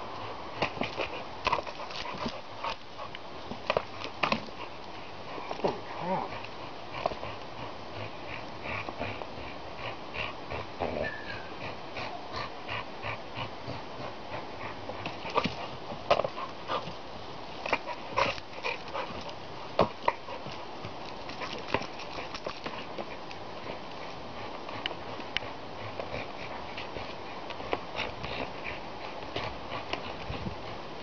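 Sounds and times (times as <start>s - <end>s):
dog breathing and grunting: 0.1s - 31.0s.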